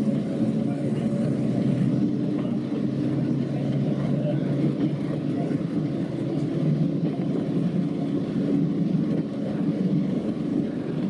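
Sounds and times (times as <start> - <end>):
diesel train engine running: 0.0 - 11.0
wheels rumbling on rails: 0.0 - 11.0.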